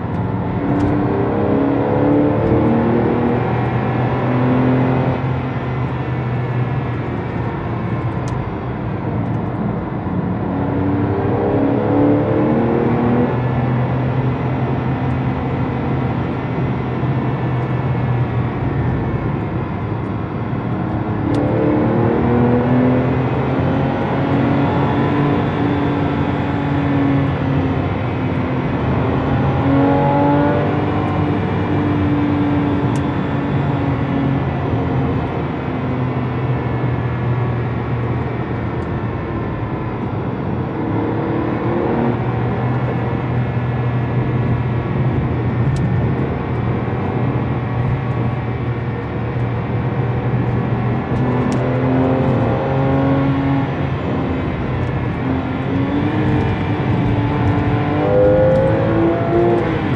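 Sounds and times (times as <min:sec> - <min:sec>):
car engine from inside cabin: 0:00.0 - 0:59.9
road and tyre noise: 0:00.0 - 0:59.9.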